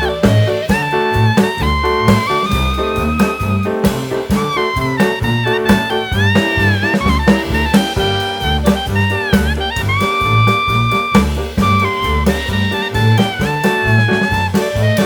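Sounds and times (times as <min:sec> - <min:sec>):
horn-like melody: 0:00.0 - 0:15.0
steady bass beat: 0:00.0 - 0:15.0
upbeat jazzy music: 0:00.0 - 0:15.0.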